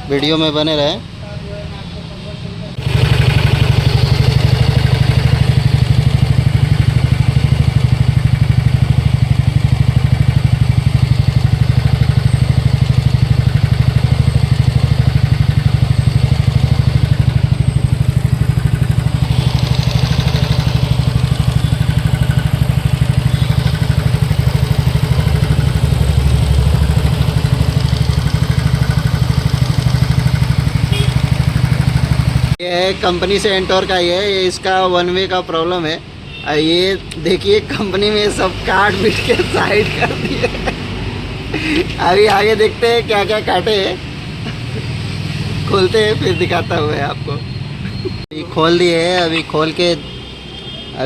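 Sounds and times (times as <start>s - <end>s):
scooter engine idling: 2.8s - 33.7s, 37.4s - 49.9s.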